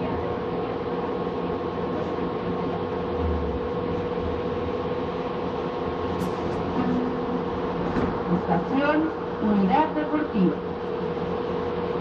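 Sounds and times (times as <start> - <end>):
steady humming tone: 0.0 - 12.0.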